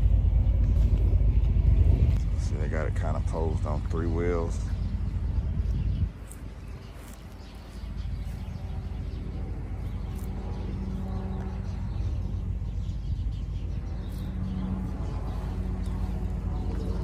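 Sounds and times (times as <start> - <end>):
faint birds chirping: 0.0 - 17.0
vehicle engine idling: 0.0 - 17.0.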